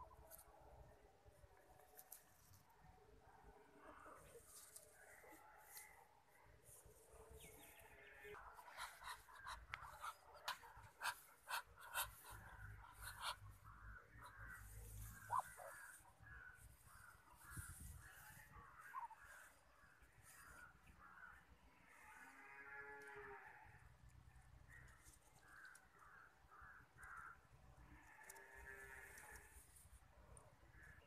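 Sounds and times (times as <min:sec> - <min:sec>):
ducks calling softly: 0:03.7 - 0:31.0.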